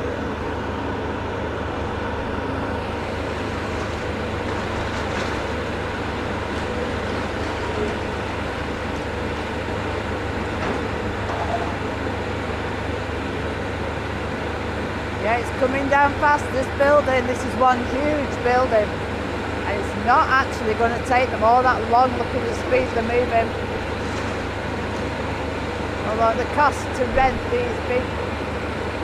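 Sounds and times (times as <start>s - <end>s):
excavator diesel engine droning: 0.0s - 29.0s.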